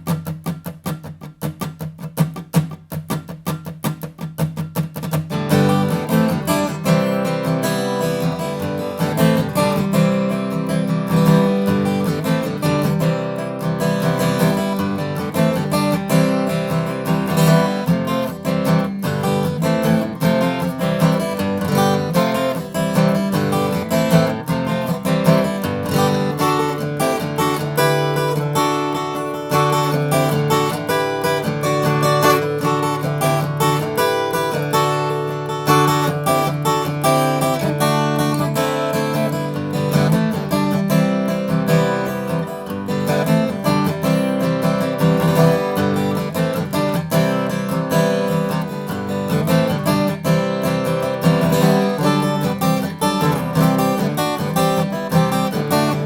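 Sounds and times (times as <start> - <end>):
acoustic guitar strummed and picked: 0.0 - 56.0.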